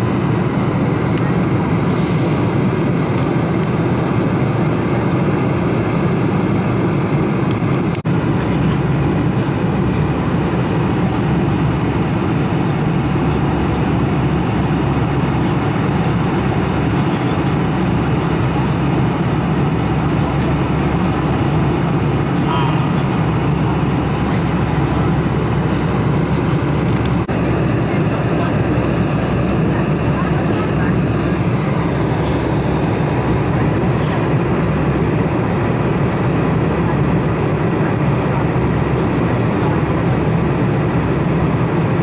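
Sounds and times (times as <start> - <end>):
airplane cabin rumble: 0.0 - 42.0.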